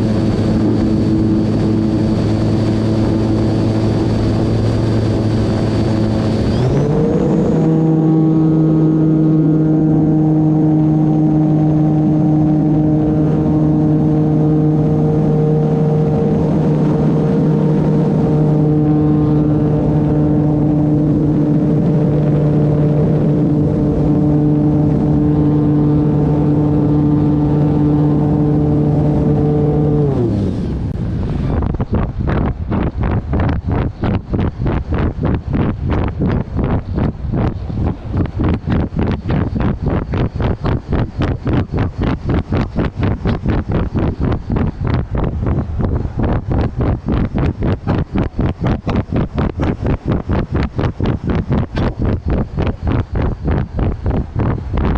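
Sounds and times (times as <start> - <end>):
propeller hum: 0.0 - 54.9
wind buffeting microphone: 0.0 - 54.9.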